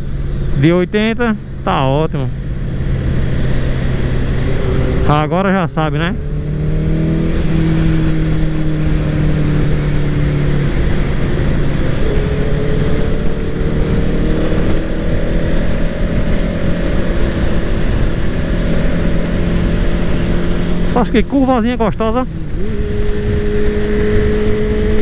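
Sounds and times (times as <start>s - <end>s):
motorcycle engine running: 0.0s - 25.0s
wind rushing: 2.3s - 5.4s, 6.0s - 21.0s, 22.2s - 25.0s.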